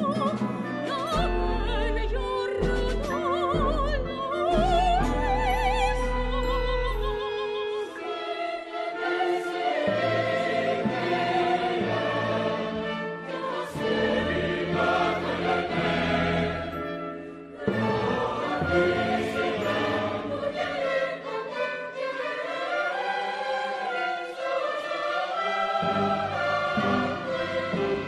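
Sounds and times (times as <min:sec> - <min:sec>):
orchestral music with voices: 0:00.0 - 0:28.0.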